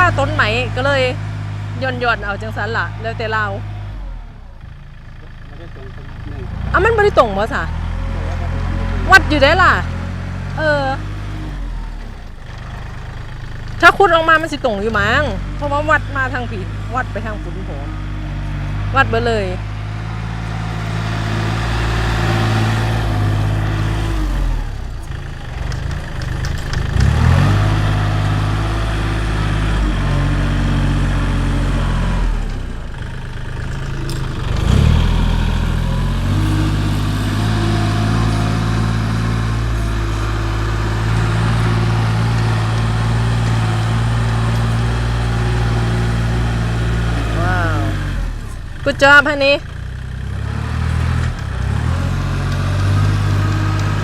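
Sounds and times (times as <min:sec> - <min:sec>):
heavy vehicle engine running: 0:00.0 - 0:54.0.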